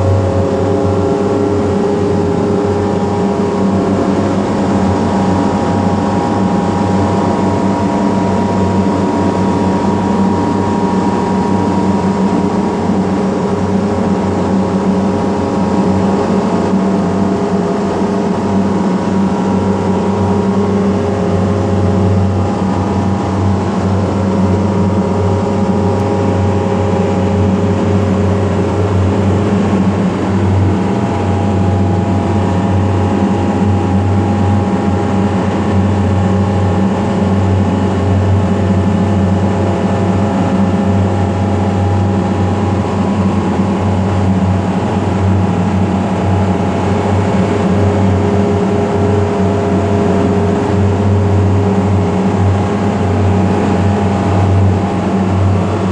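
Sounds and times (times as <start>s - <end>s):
loud machine hum: 0.0s - 55.9s.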